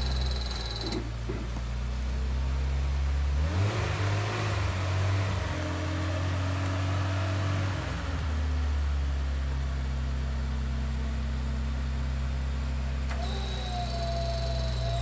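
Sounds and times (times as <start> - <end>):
engine idling and revving: 0.0 - 15.0.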